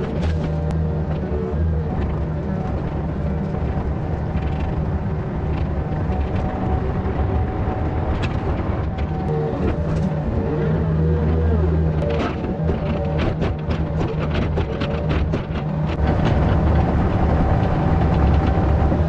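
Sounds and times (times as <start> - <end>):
excavator diesel engine under load: 0.0 - 19.0.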